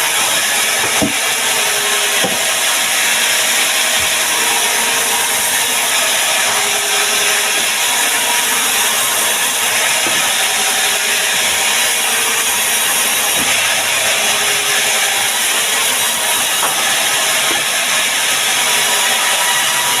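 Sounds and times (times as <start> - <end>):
power saw cutting wood: 0.0 - 20.0.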